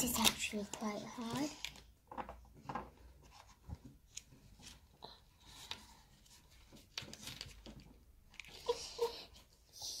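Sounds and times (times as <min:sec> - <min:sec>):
plastic moulds clicking and rubbing: 0:00.0 - 0:09.5.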